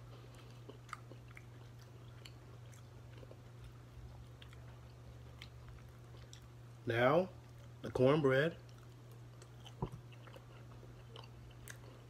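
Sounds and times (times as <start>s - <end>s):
chewing cabbage: 0.0s - 12.0s
steady low hum: 0.0s - 12.0s.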